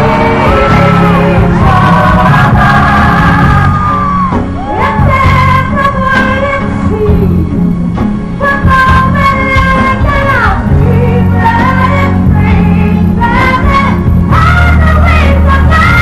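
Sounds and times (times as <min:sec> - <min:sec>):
band playing a ballad: 0:00.0 - 0:16.0.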